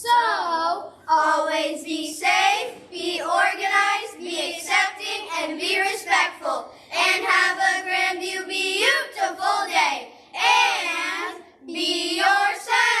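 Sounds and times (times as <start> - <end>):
children singing: 1.2 - 6.4, 7.0 - 13.0.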